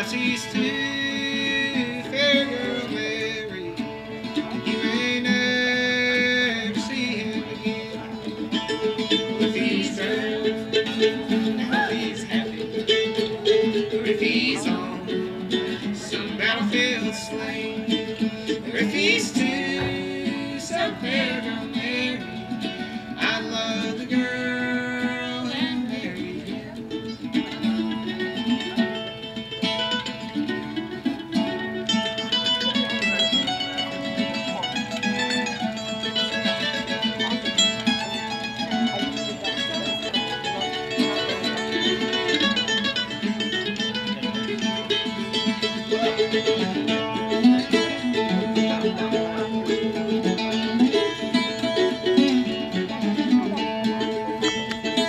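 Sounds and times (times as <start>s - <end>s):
fiddle melody: 0.0s - 55.0s
picked plucked strings: 0.0s - 55.0s.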